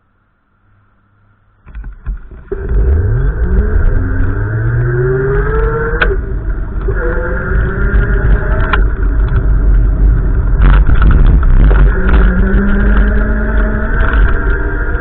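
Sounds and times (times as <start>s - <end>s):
heavy low rumble: 1.5s - 15.0s
vehicle engine accelerating: 2.2s - 15.0s.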